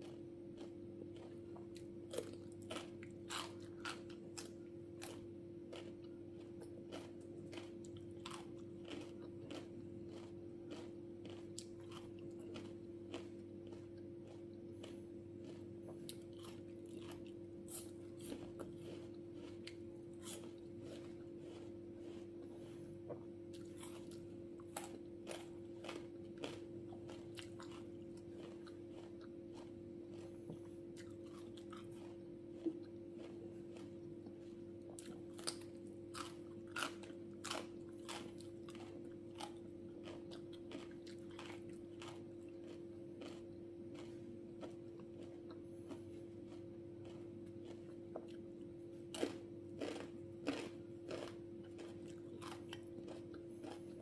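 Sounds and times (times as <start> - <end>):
chewing crisp cucumber: 0.0 - 54.0
steady low hum: 0.0 - 54.0.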